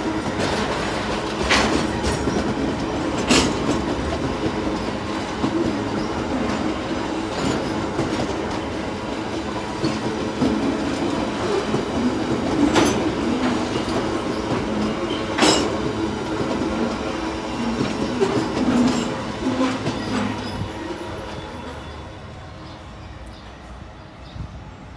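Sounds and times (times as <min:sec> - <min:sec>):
wheels clacking on rail joints: 0:00.0 - 0:21.9
freight train wagons rumbling: 0:00.0 - 0:24.9.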